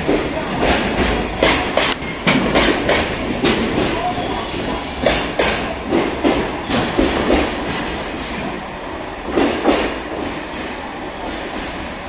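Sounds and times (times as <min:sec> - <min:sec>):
train wheels clicking over rail joints: 0:00.0 - 0:08.6, 0:09.2 - 0:12.0
train rumble: 0:00.0 - 0:12.0.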